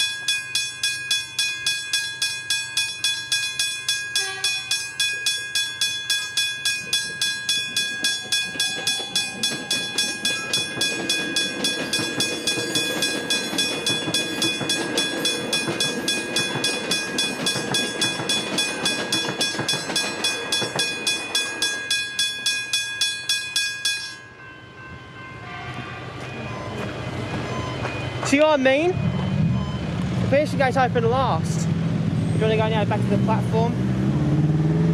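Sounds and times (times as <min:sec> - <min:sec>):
level-crossing bell ringing: 0:00.0 - 0:31.0
train passing: 0:00.0 - 0:34.9.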